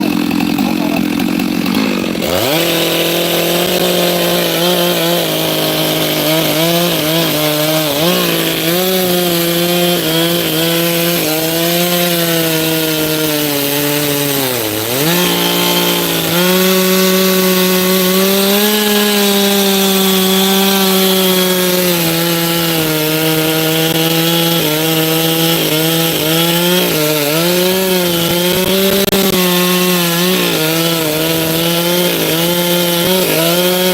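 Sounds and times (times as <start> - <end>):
small petrol engine running hard: 0.0 - 33.9.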